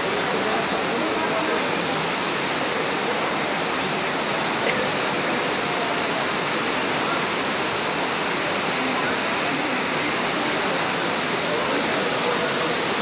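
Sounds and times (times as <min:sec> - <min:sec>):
heavy rain pouring: 0:00.0 - 0:13.0
water running off roof: 0:00.0 - 0:13.0.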